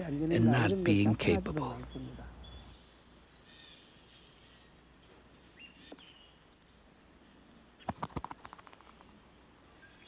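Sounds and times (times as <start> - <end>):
faint outdoor ambience: 0.0 - 10.0.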